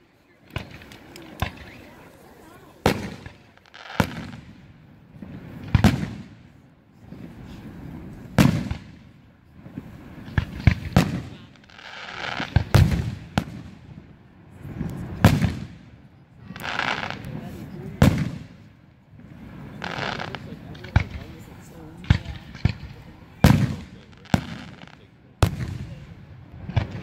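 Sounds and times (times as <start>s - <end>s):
firework booms with echo: 2.8s - 21.4s, 22.0s - 27.0s.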